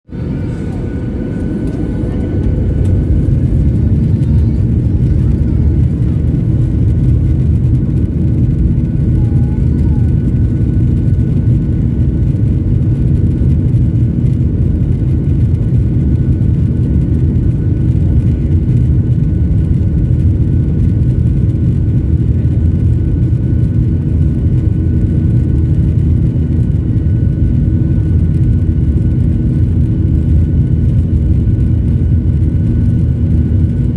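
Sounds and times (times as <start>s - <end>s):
faint steady whine: 0.1s - 33.9s
jet engine rumble in cabin: 0.1s - 33.9s.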